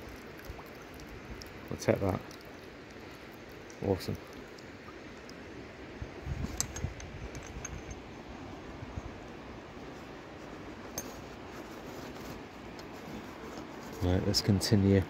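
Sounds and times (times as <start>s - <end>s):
shallow river water: 0.0s - 15.0s.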